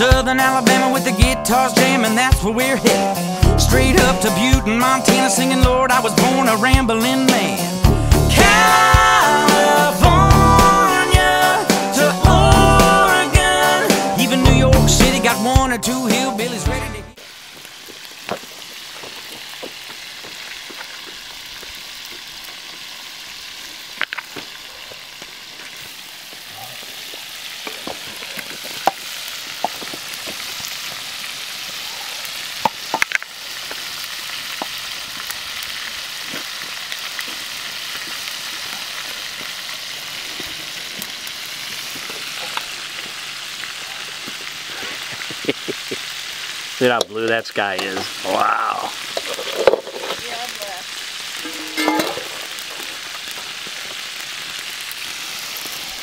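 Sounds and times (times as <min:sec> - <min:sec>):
fish sizzling in hot oil: 0:00.0 - 0:16.5, 0:17.1 - 0:56.0.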